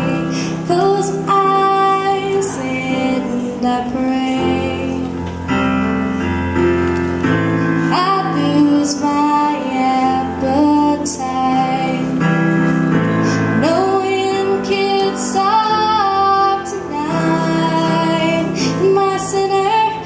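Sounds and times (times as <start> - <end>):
woman singing a pop ballad: 0.0 - 5.3, 7.8 - 20.0
piano chords: 0.0 - 20.0.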